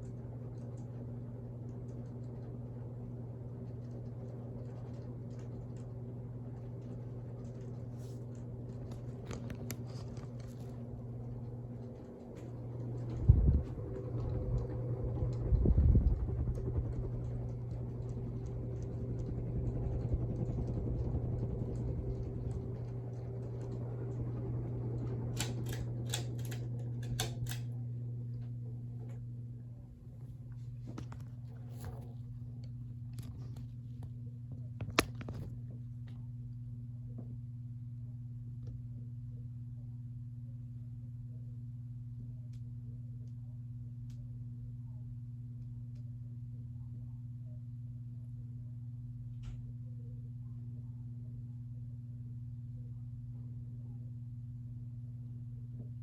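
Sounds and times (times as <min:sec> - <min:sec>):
ceiling fan motor hum: 0:00.0 - 0:56.0.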